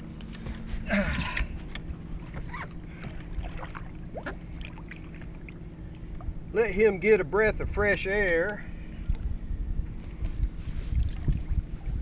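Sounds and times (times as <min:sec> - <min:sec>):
steady low hum: 0:00.0 - 0:12.0
water splashing and sloshing: 0:00.0 - 0:12.0.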